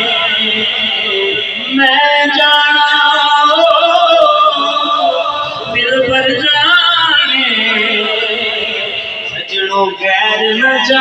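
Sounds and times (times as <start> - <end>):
man singing into microphone: 0.0 - 11.0.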